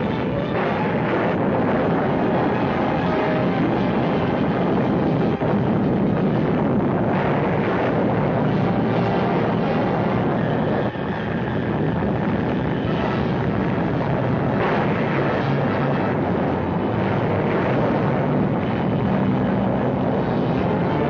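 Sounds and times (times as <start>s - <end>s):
blast rushing rumble: 0.0s - 21.0s.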